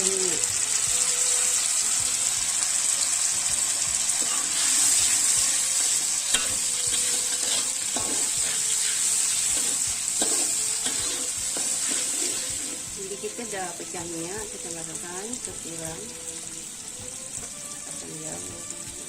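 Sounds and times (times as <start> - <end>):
chilli paste sizzling in oil: 0.0 - 19.0.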